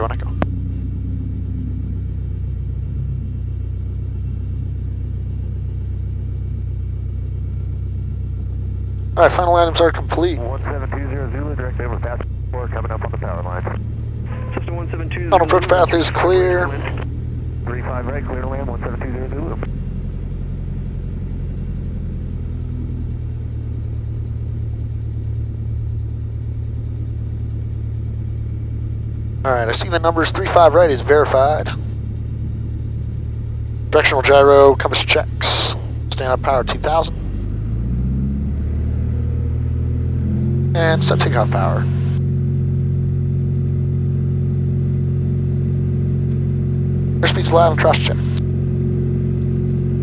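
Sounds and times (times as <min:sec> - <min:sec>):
airplane engine droning: 0:00.0 - 0:50.0.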